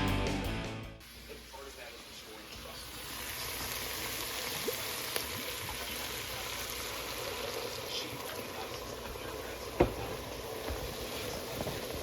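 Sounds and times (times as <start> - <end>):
watery cooking liquid noise: 1.0 - 12.0.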